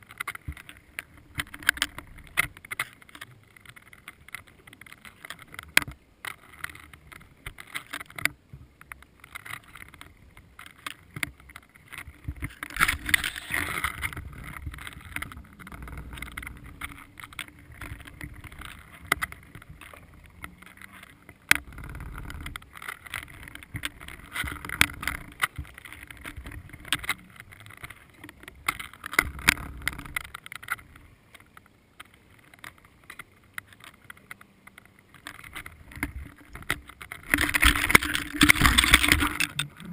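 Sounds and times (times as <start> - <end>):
sharp clicks and knocks: 0.0 - 39.9.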